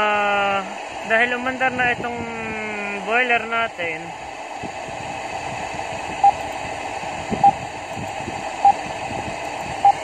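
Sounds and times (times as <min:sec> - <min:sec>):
steady hum and hiss: 0:00.0 - 0:10.0.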